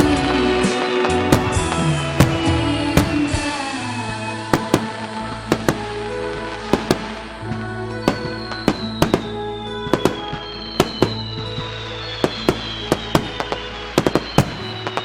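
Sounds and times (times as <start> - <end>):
fireworks bangs: 0.0 - 15.0
music: 0.0 - 15.0.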